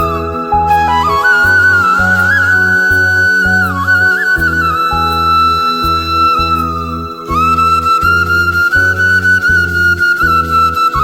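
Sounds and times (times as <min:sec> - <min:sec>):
flute melody: 0:00.0 - 0:11.0
low bass notes: 0:00.0 - 0:11.0.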